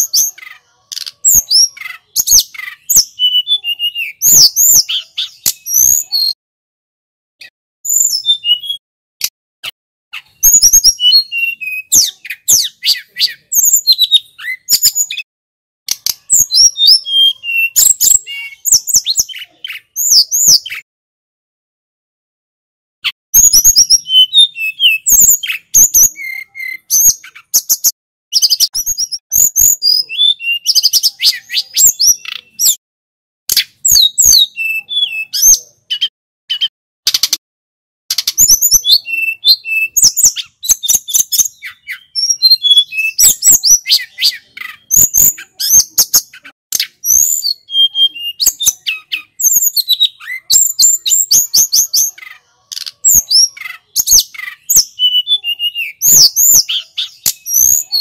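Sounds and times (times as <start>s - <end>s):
bird singing whistled trills: 1.0s - 6.4s, 7.9s - 8.8s, 10.2s - 15.3s, 15.9s - 20.9s, 23.4s - 32.8s, 33.6s - 36.7s, 38.1s - 52.2s, 52.8s - 58.0s.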